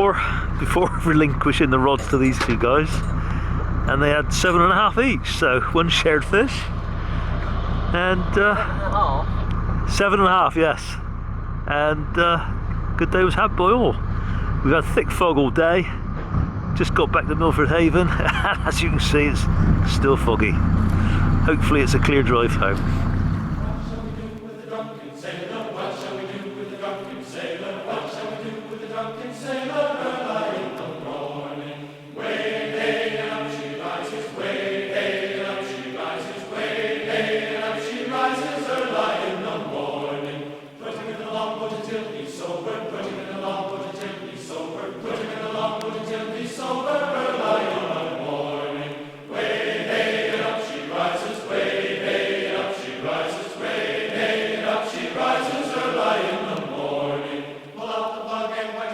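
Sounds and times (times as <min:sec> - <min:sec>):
choir-like chanting voices: 0:00.0 - 0:16.0, 0:16.8 - 0:58.9.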